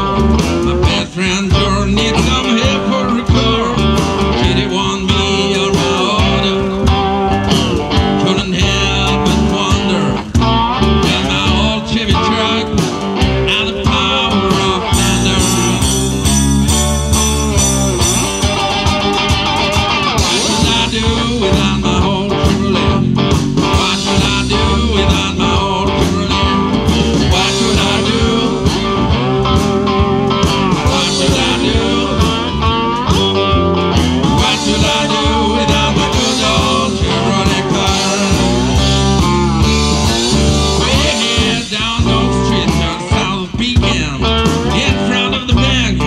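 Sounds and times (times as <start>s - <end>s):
blues band playing: 0.0s - 46.0s
cigar-box guitars: 0.0s - 46.0s
drum kit beat: 0.0s - 46.0s.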